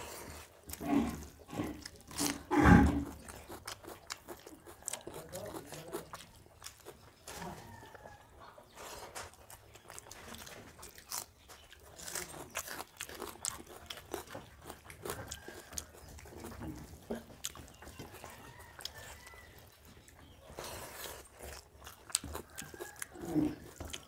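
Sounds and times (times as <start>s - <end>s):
people chewing: 0.0s - 24.0s.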